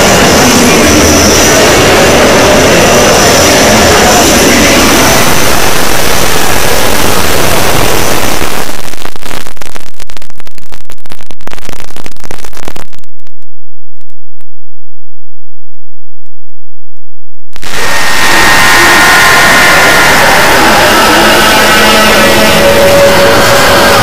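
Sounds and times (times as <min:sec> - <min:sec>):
harsh distorted noise: 0:00.0 - 0:24.0
crackling: 0:03.3 - 0:24.0.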